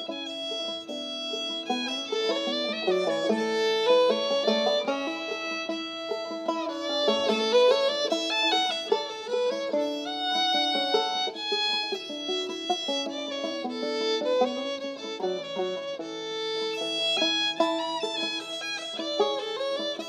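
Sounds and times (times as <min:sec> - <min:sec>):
banjo accompaniment: 0:00.0 - 0:20.0
fiddle playing lively tune: 0:00.0 - 0:20.0.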